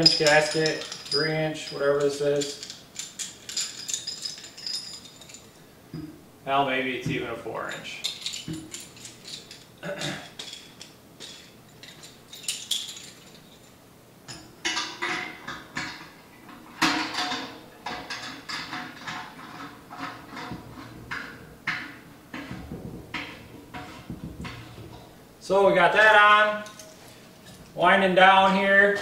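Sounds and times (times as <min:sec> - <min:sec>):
steel fittings clinking: 0:00.0 - 0:06.0, 0:07.2 - 0:16.1, 0:16.8 - 0:25.2, 0:25.9 - 0:29.0.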